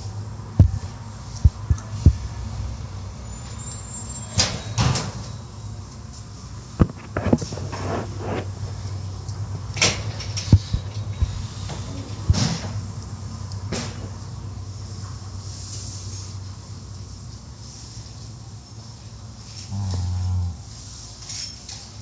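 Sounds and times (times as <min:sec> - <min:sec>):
car wash machinery humming: 0:00.0 - 0:19.7.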